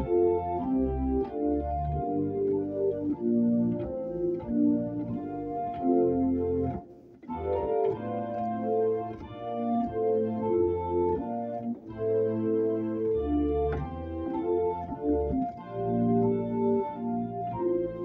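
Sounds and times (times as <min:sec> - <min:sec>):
organ playing a hymn: 0:00.0 - 0:18.0.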